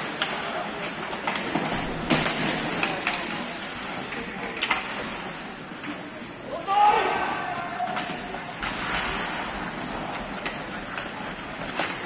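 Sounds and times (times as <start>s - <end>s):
skates scraping on ice: 0.0s - 7.1s, 7.8s - 12.0s
sticks and puck clacking: 0.0s - 12.0s.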